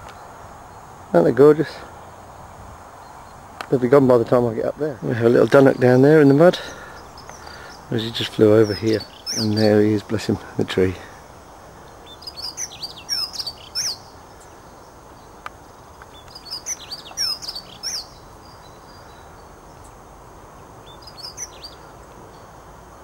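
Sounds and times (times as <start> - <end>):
songbird warbling: 1.4 - 20.0, 20.6 - 22.0.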